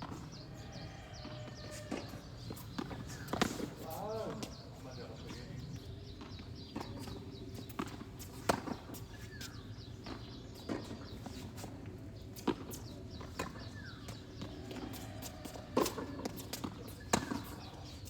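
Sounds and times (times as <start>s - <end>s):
tennis ball bounces: 1.2s - 4.6s, 6.0s - 11.7s, 12.3s - 18.0s.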